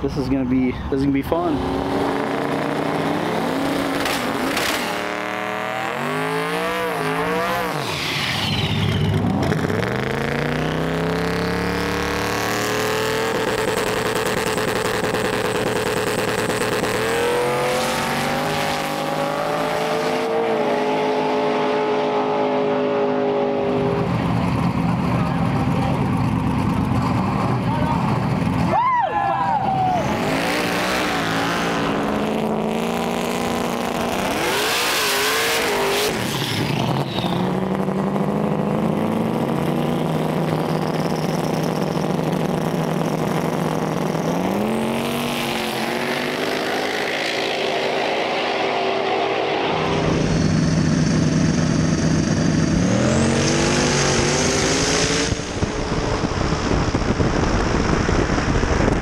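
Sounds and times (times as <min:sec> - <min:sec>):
racing car engines revving: 0:00.0 - 0:59.0.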